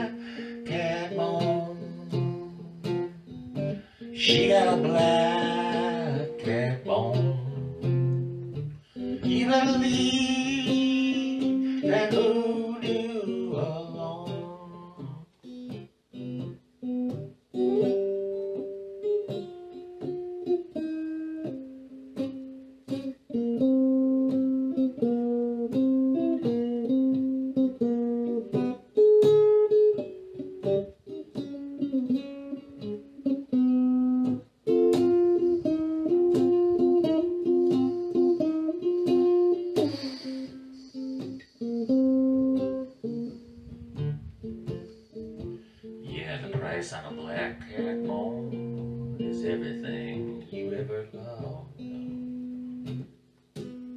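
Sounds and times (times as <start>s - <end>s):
electric guitar playing blues: 0.0s - 53.9s.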